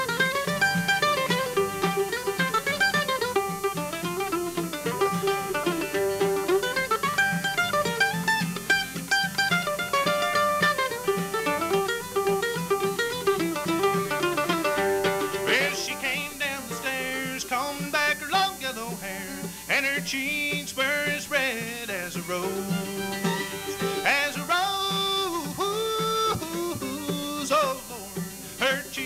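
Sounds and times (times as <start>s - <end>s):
acoustic guitar: 0.0s - 29.0s
fiddle with sliding notes: 0.0s - 29.0s
picked mandolin lead: 0.0s - 29.0s.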